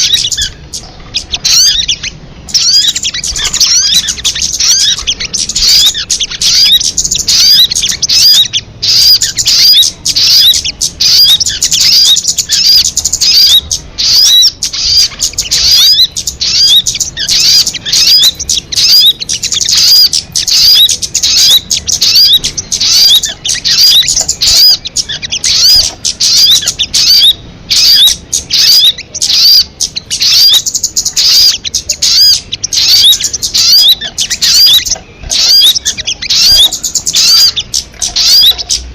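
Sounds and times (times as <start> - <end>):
bird rapid high chirping: 0.0 - 38.9.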